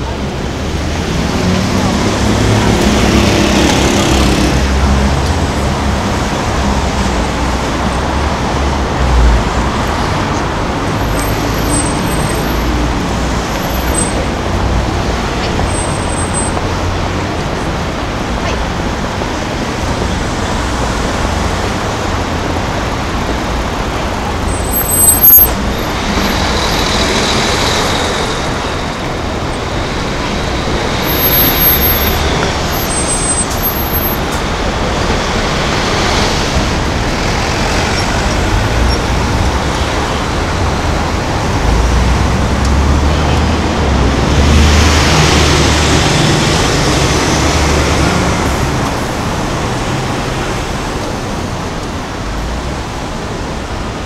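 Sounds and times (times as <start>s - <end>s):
bus engine rumble: 0.0s - 54.0s
city traffic passing: 0.0s - 54.0s.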